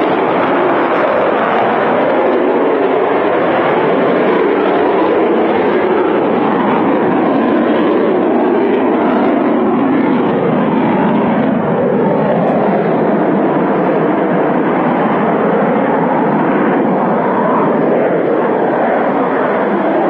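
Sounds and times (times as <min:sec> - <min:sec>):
fighter jet engines rushing: 0:00.0 - 0:20.0.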